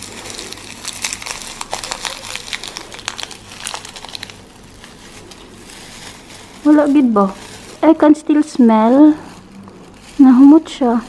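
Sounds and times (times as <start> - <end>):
foil wrapper crinkling: 0.0 - 11.0
plastic gloves crinkling: 0.0 - 11.0.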